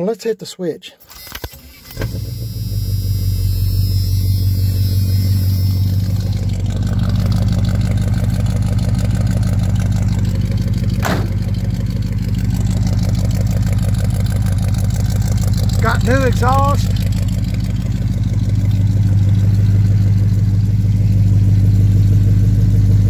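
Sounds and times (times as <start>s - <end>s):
car engine idling: 1.8s - 23.0s.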